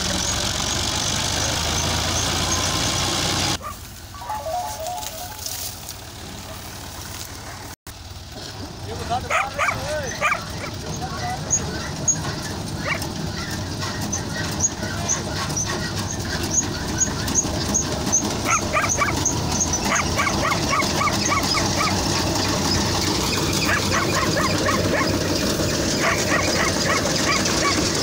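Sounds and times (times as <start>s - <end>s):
threshing machine running: 0.0s - 28.0s.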